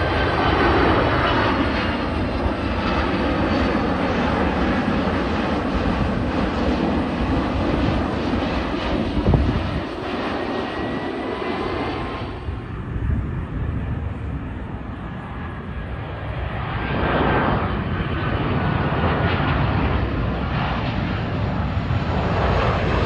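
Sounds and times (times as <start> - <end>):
jet engine roar overhead: 0.0 - 23.0
jet engine whine: 0.0 - 23.0.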